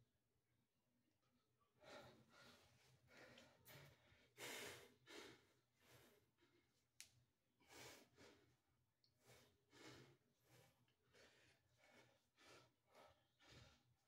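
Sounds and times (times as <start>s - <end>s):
man breathing heavily: 1.8s - 6.7s, 7.6s - 14.0s.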